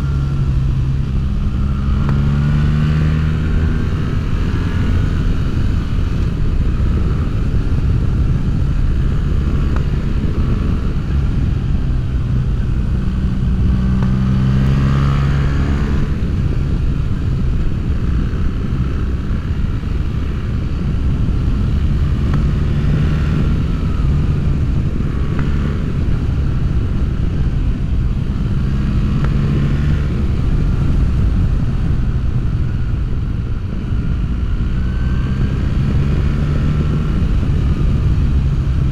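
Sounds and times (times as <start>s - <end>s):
motorcycle engine rising and falling: 0.0s - 38.9s.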